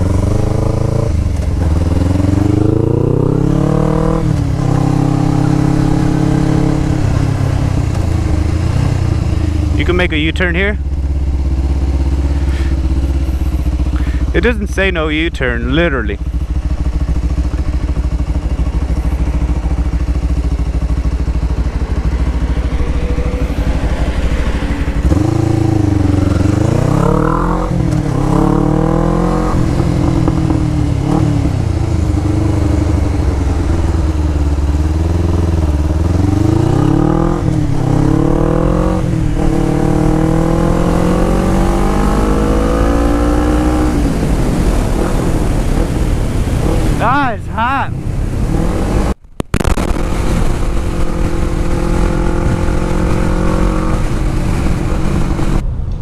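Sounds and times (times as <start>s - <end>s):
motorcycle engine revving: 0.0s - 47.3s, 47.9s - 55.8s.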